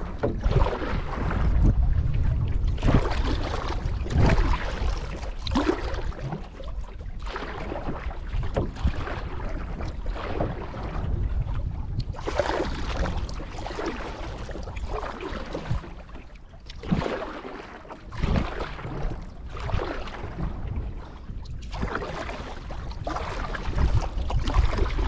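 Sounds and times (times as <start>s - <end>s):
canoe paddle strokes in water: 0.0s - 25.0s
wind rumble on microphone: 0.0s - 25.0s.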